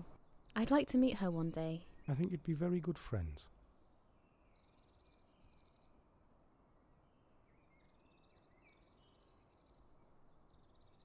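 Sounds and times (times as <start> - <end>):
low steady hiss: 0.0 - 11.0
songbird chirping: 0.0 - 11.0.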